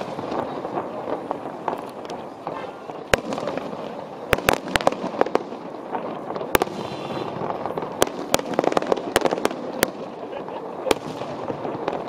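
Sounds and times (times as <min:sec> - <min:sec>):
background noise: 0:00.0 - 0:12.0
distant fireworks bangs: 0:00.0 - 0:12.0.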